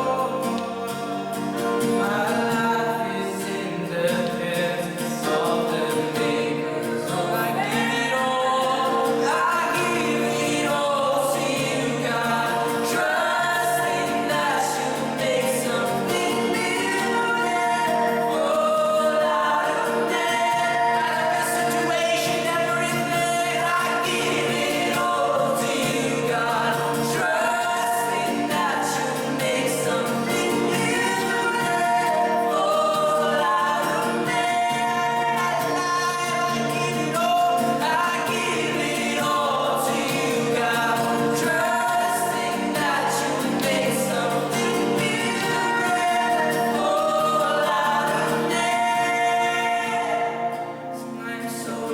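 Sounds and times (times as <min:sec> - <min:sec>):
choir singing a gospel hymn: 0:00.0 - 0:51.9.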